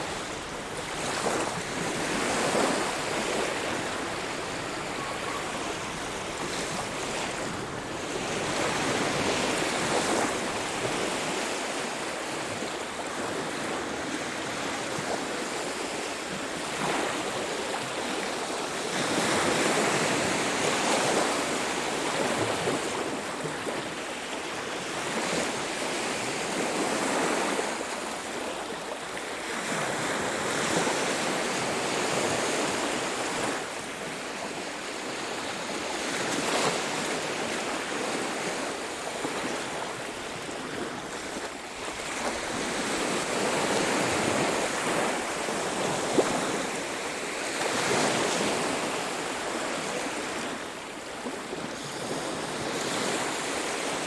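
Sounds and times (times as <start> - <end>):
sea surf breaking on a beach: 0.0 - 54.0.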